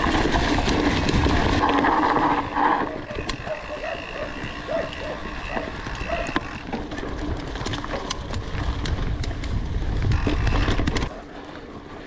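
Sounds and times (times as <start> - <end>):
wind buffeting microphone: 0.0 - 11.8
bike rattling clicks: 0.0 - 12.0
tyres rolling over dirt: 0.0 - 12.0.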